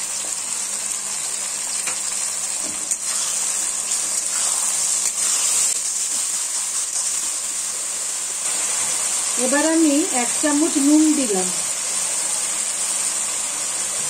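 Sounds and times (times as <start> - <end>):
vegetables sizzling in butter: 0.0 - 14.0.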